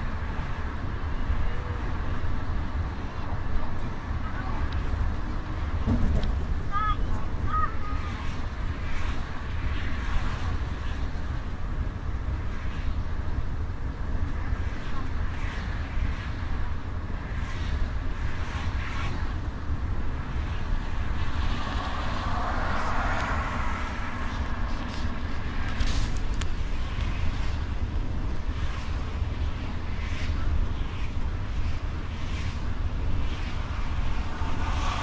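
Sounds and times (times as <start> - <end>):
coach engine and tyres rumbling: 0.0 - 35.0.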